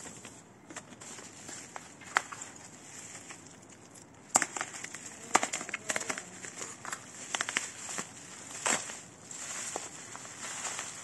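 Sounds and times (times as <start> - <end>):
bubble wrap crinkling: 0.0 - 11.0
bubble wrap snapping: 0.8 - 11.0.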